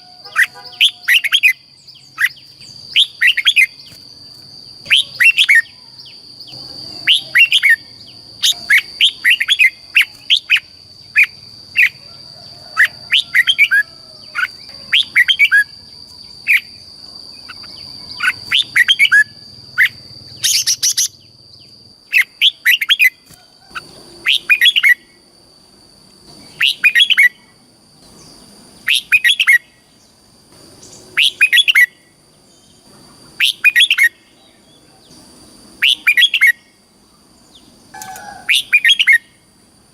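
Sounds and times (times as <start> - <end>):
bulbul singing warbled phrases: 0.0 - 12.0, 12.8 - 25.2, 26.3 - 30.2, 30.8 - 36.8, 37.5 - 39.4.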